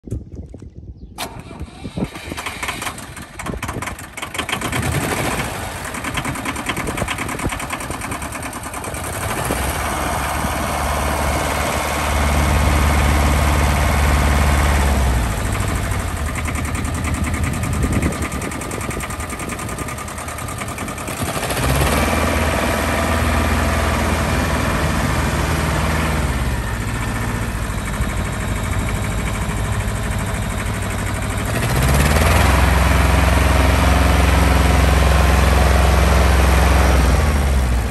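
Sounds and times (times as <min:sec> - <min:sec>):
tractor diesel engine revving: 0:01.2 - 0:37.9.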